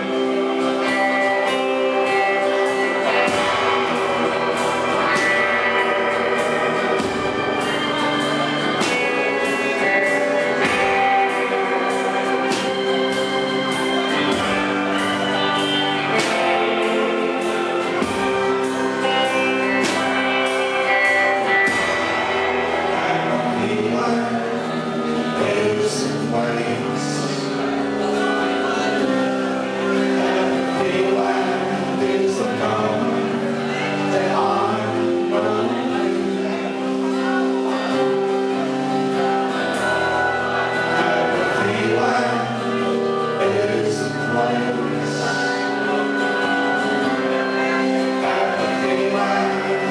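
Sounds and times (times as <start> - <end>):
live indie rock band: 0.0 - 49.9
man singing: 0.0 - 49.9.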